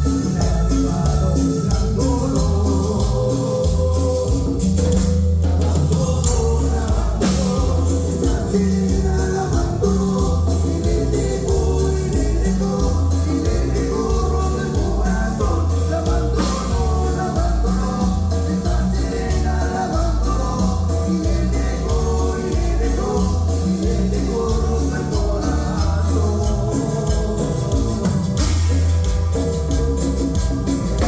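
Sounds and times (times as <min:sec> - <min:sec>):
person singing: 0:00.0 - 0:31.0
pulsing bass line: 0:00.0 - 0:31.0
steady drum beat: 0:00.0 - 0:31.0.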